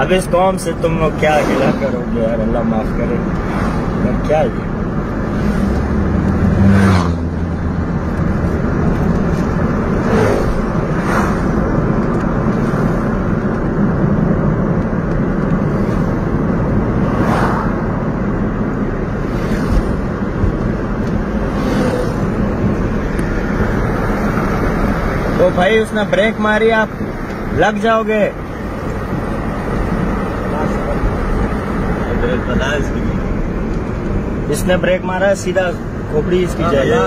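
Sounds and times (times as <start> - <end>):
rushing noise: 0.0 - 34.9
car road and engine noise: 0.0 - 37.0.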